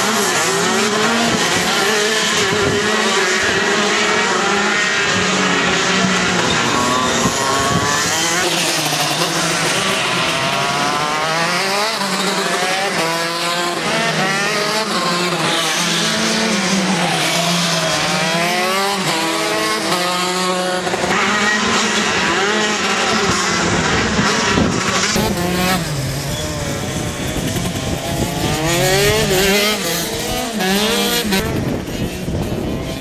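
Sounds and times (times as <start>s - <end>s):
kart engines racing: 0.0s - 33.0s.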